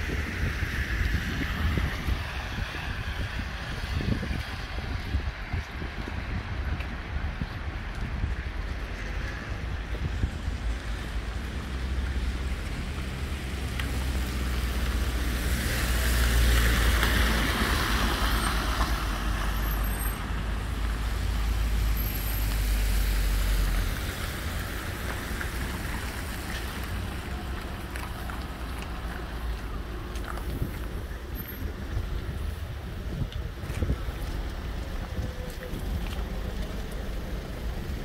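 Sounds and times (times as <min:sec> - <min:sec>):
tyres hissing on wet asphalt: 0:00.0 - 0:38.0.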